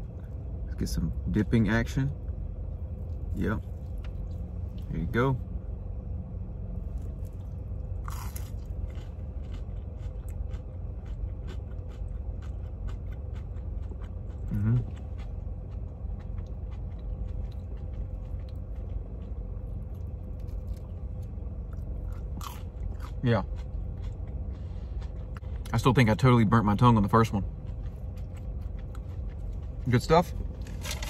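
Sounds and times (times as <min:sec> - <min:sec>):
person chewing crispy chicken: 0:03.0 - 0:04.9, 0:06.8 - 0:26.2, 0:26.8 - 0:31.0.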